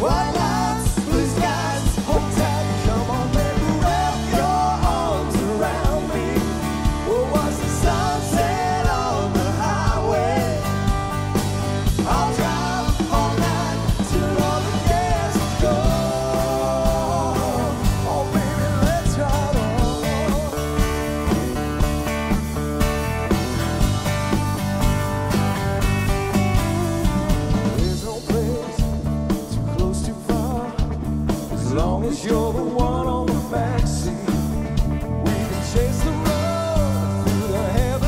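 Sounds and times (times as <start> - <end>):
man singing: 0.0 - 11.0, 11.9 - 21.4, 26.6 - 38.0
country rock band playing: 0.0 - 38.0.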